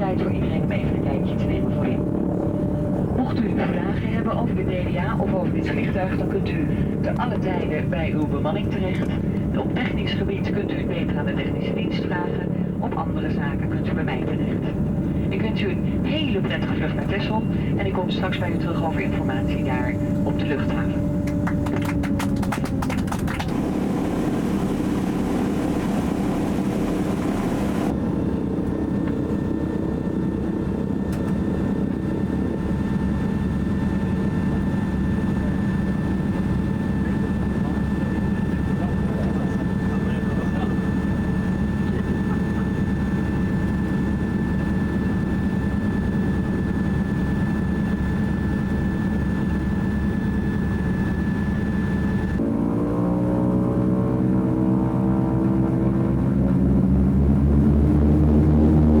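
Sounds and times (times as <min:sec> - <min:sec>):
propeller engines droning: 0:00.0 - 0:59.0.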